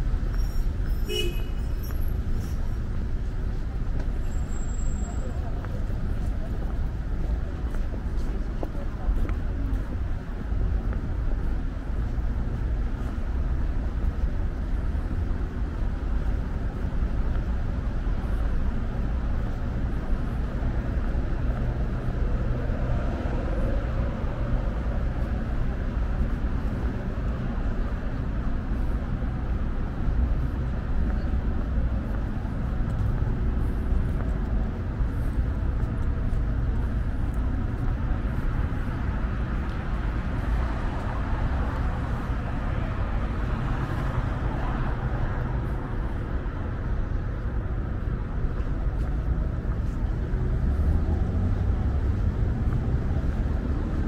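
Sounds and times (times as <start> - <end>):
cars passing on busy street: 0.0 - 54.0.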